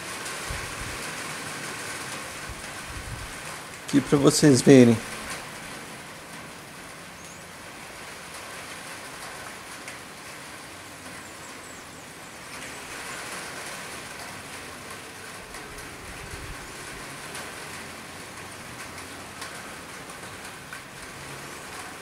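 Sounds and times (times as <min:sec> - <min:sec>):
rain on a metal roof: 0:00.0 - 0:22.0.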